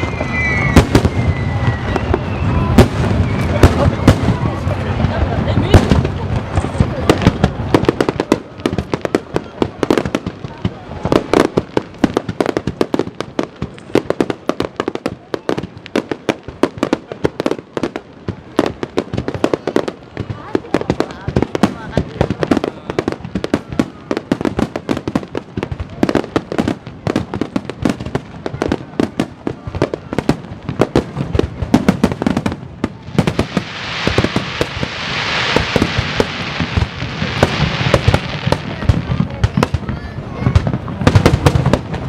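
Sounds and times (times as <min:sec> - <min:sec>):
crackling hiss of fireworks: 0:00.0 - 0:42.0
fireworks bursting: 0:00.0 - 0:42.0.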